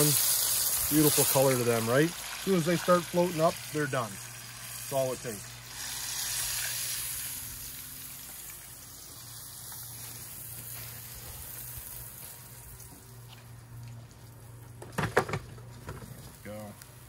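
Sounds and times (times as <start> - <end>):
hot oil sizzling and bubbling: 0.0 - 17.0.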